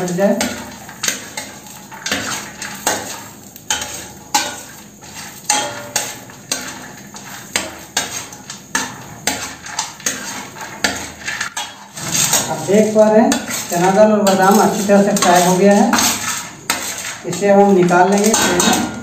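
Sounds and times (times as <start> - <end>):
food sizzling in oil: 0.0 - 19.0
metal spatula scraping a pan: 0.0 - 19.0.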